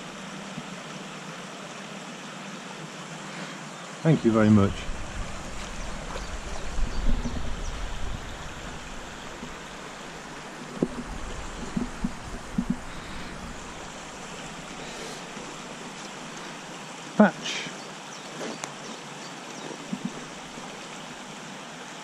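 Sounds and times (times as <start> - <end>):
stream running over stones: 0.0 - 22.0.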